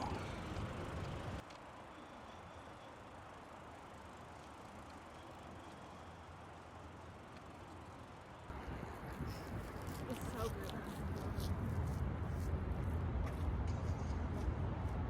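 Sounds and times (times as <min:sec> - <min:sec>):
bicycle rolling on pavement: 0:00.0 - 0:13.0.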